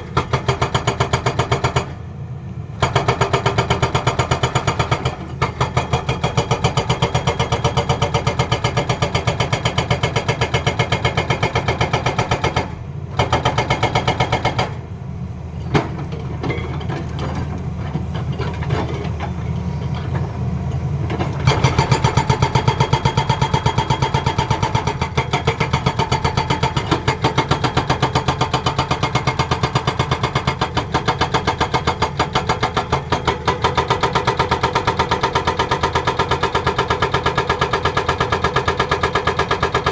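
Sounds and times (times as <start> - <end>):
hydraulic breaker hammering: 0.0 - 2.0, 2.8 - 14.8, 21.1 - 39.9.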